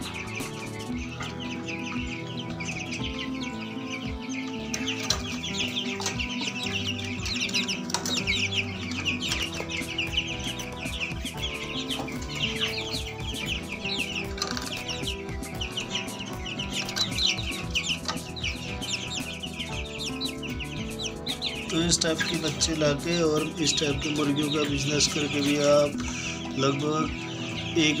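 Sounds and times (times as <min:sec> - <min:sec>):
young chickens peeping: 0:00.0 - 0:28.0.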